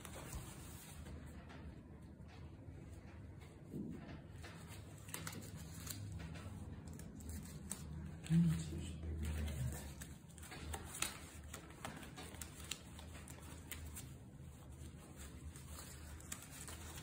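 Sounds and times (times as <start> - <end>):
fabric rustle: 0.0 - 1.6, 4.3 - 17.0.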